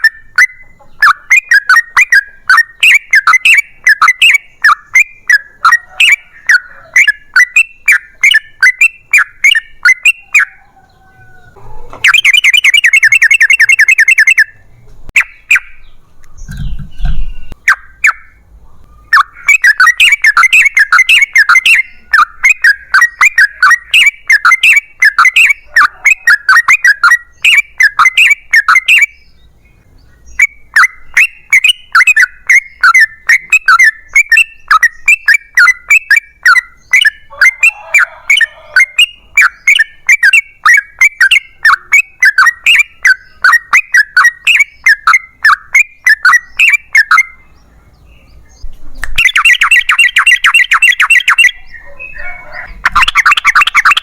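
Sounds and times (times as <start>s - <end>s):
bulbul chattering calls: 0.0s - 54.0s.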